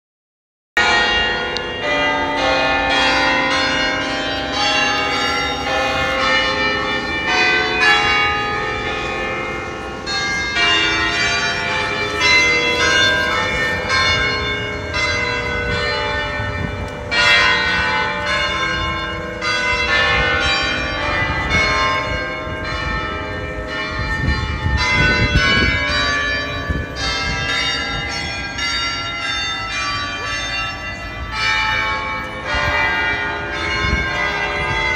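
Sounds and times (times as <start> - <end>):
church bells pealing: 0.8 - 34.9.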